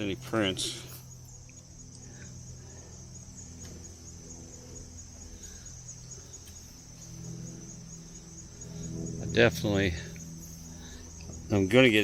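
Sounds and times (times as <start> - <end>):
crickets trilling: 0.0 - 12.0
low steady hum: 0.0 - 12.0.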